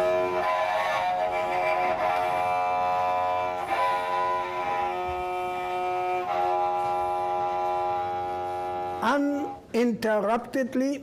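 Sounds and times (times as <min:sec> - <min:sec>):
fiddle bowed in sustained notes: 0:00.0 - 0:09.6.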